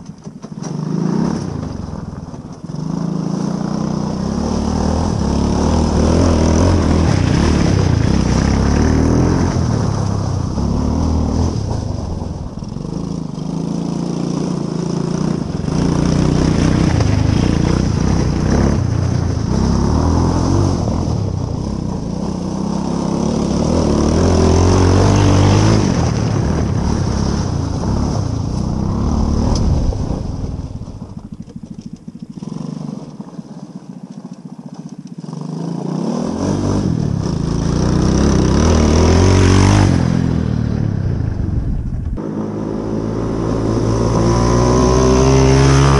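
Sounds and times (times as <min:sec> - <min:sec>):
small engine revving: 0:00.0 - 0:45.9.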